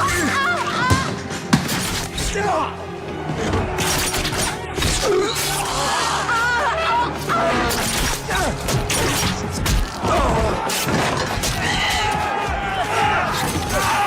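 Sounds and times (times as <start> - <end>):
dramatic music: 0.0 - 14.0.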